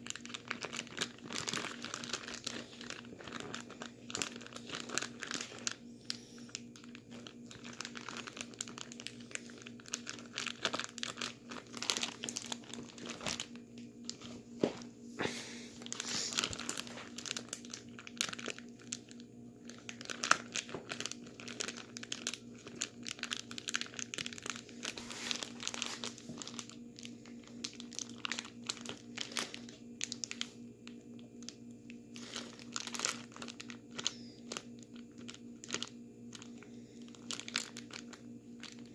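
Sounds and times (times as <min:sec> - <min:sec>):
plastic bag crinkling: 0:00.0 - 0:38.9
steady low hum: 0:00.0 - 0:38.9.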